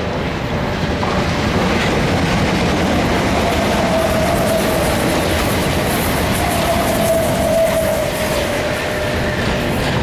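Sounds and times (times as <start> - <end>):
train wheels rumbling on track: 0.0 - 10.0.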